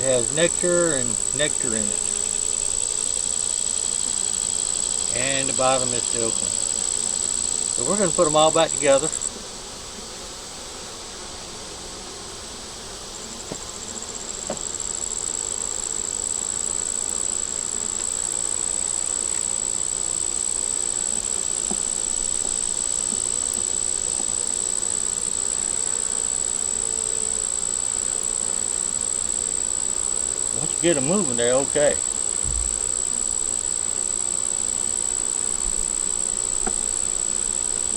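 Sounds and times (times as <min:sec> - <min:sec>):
high-pitched insect trill: 0:00.0 - 0:09.4, 0:13.7 - 0:37.9
honeybees humming: 0:00.0 - 0:37.9.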